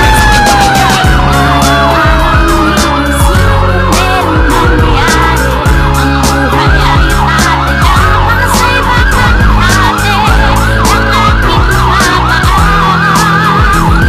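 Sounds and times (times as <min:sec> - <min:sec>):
siren in fast yelp mode: 0:00.0 - 0:14.0
song beat: 0:00.0 - 0:14.0.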